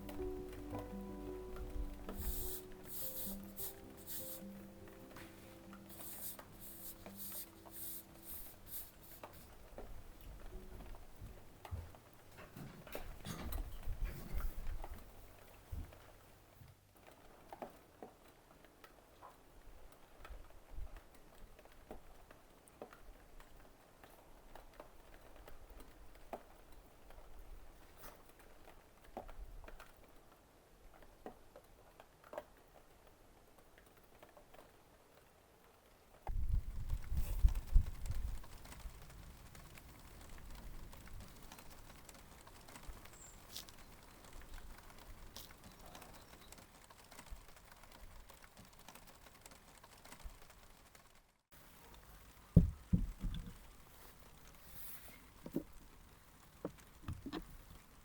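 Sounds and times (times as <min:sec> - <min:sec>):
soft clicks and ticks: 0:00.0 - 0:27.3, 0:28.0 - 0:58.0.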